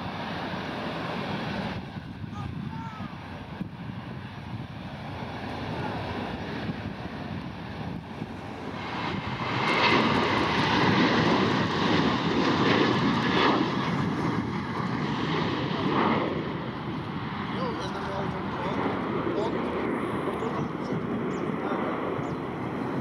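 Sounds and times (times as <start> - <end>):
airplane engines rumbling: 0.0 - 23.0.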